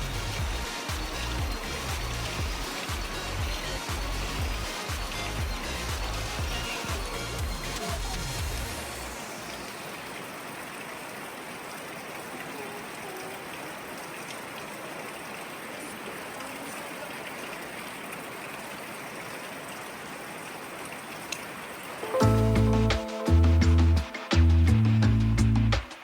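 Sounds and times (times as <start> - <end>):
river water rushing: 0.0 - 24.3.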